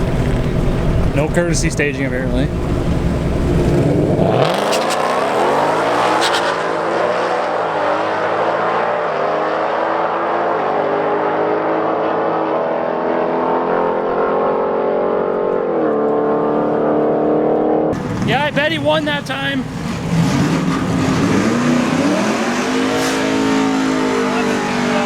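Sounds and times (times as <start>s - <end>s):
drag racing cars accelerating: 0.0s - 25.0s.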